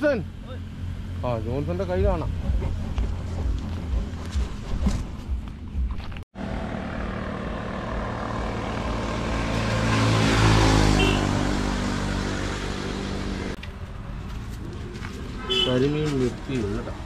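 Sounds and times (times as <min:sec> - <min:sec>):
engine passing by: 0:00.2 - 0:17.0.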